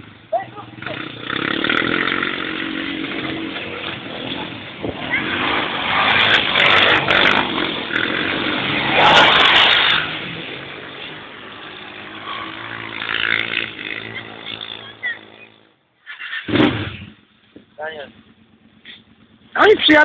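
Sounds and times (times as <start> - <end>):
quad bike engine running: 0.0 - 15.7, 16.4 - 20.0.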